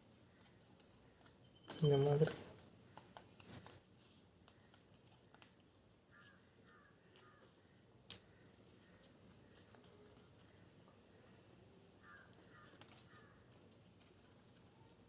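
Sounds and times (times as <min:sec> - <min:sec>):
paper being folded: 0:00.0 - 0:10.7, 0:11.5 - 0:15.0
paper crackle: 0:00.1 - 0:10.6, 0:12.0 - 0:15.0.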